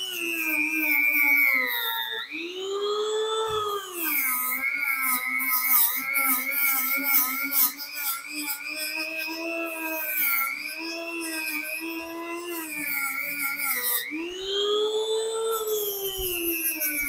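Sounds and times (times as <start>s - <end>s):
rotary tool sanding wood: 0.0s - 17.0s.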